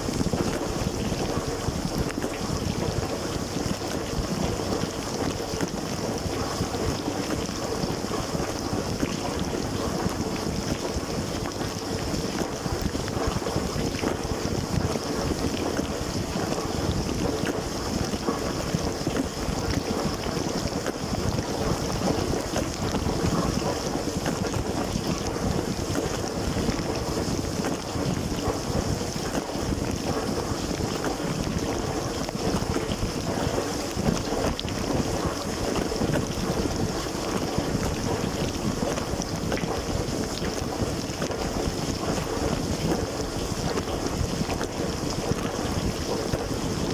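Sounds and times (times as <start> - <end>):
dishwasher water jets splashing: 0.0 - 46.9.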